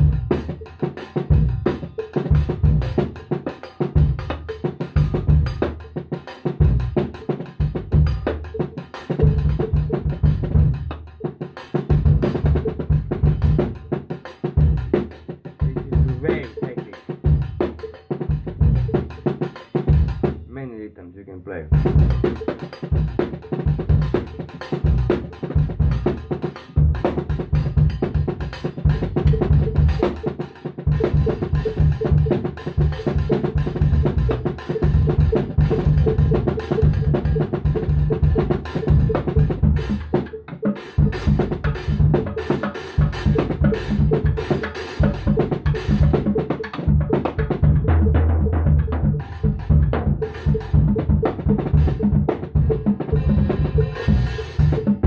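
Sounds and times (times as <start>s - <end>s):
drum kit playing: 0.0s - 20.7s, 21.7s - 55.0s.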